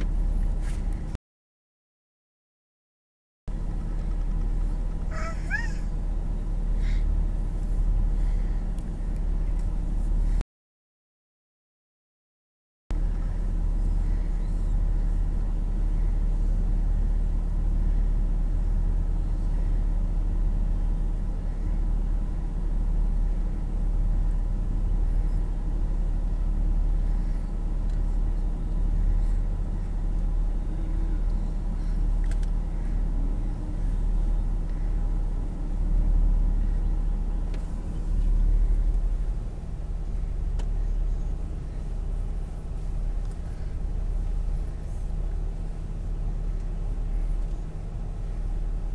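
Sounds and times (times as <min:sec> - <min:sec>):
car engine running: 0:00.0 - 0:01.2, 0:03.5 - 0:10.4, 0:13.0 - 0:48.9.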